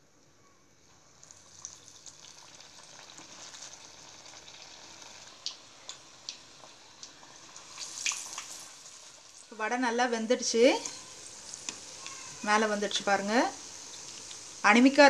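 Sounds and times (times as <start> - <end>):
batter sizzling in hot oil: 0.8 - 15.0
oil crackling and popping: 0.9 - 9.6, 10.7 - 15.0.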